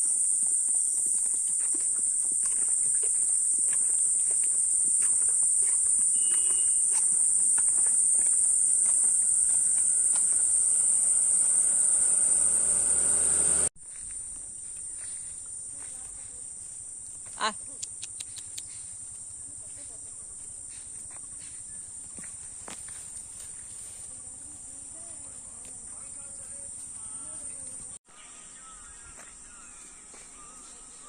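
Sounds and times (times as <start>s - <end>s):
insect chorus drone: 0.0s - 31.0s.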